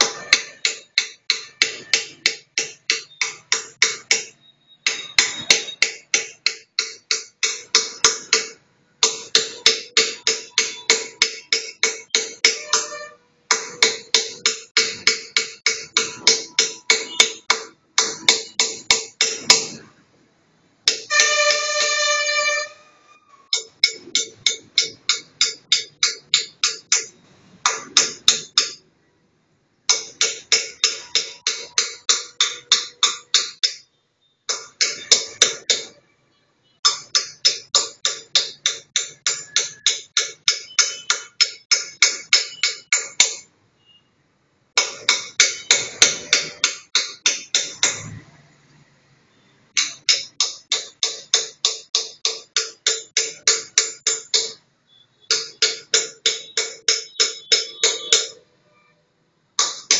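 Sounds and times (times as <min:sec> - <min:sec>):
hammer tapping chisel into stone: 0:00.0 - 0:19.9, 0:20.8 - 0:21.7, 0:23.5 - 0:28.9, 0:29.9 - 0:33.9, 0:34.5 - 0:36.0, 0:36.8 - 0:43.5, 0:44.8 - 0:48.2, 0:49.7 - 0:54.6, 0:55.2 - 0:58.4, 0:59.6 - 0:59.9.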